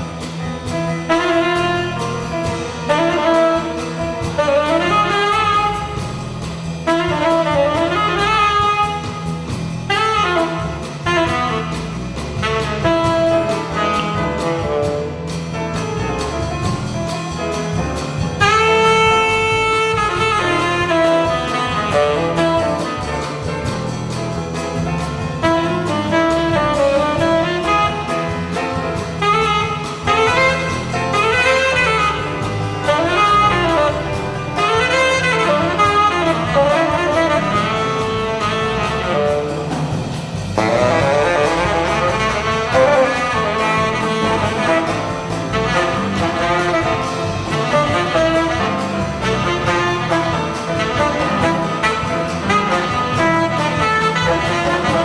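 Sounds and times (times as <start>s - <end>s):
jazz band playing: 0.0s - 55.0s
saxophone playing lead: 2.9s - 15.3s, 18.4s - 23.2s, 25.4s - 55.0s.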